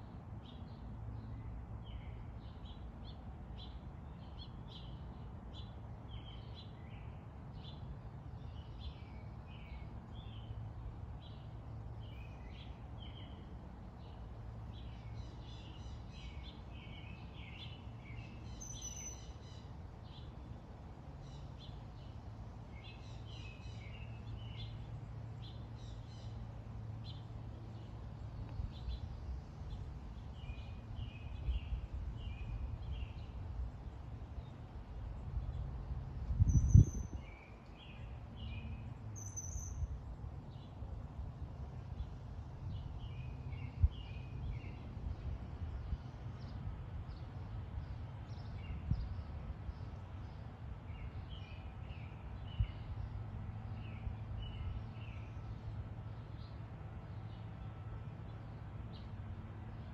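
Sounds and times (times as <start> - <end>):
songbirds chirping and singing: 0.4 - 59.9.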